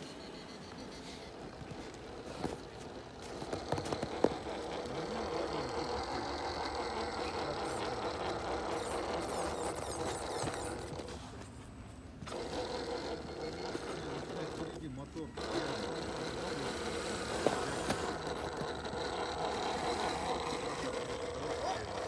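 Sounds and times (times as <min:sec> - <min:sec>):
toy car electric motor whining: 0:00.0 - 0:11.4, 0:12.2 - 0:22.0.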